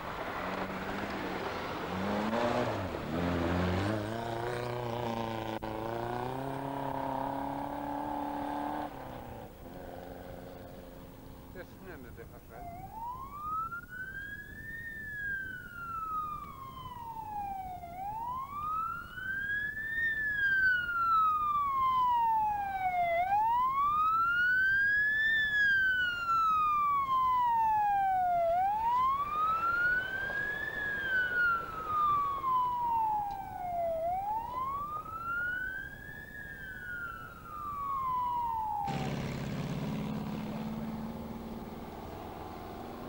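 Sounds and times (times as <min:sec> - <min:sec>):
wailing vehicle siren: 0:00.0 - 0:43.0.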